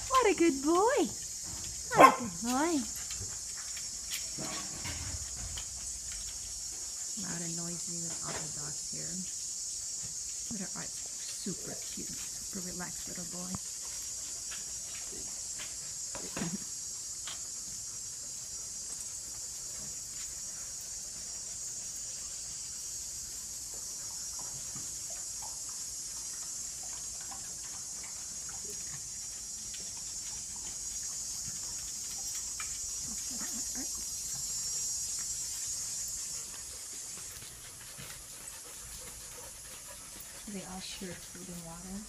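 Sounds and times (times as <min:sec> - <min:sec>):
shrill insect chorus: 0:00.0 - 0:42.0.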